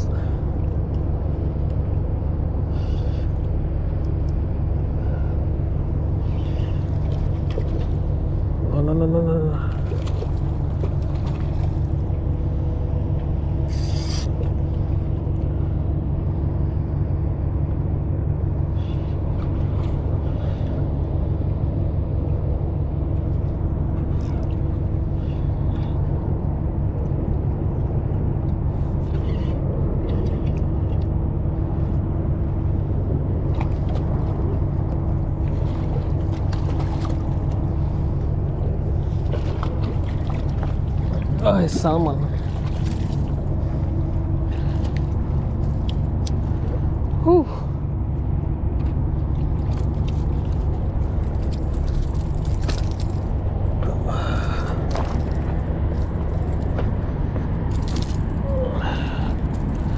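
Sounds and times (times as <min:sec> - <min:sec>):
low mechanical drone with hum: 0:00.0 - 0:59.9.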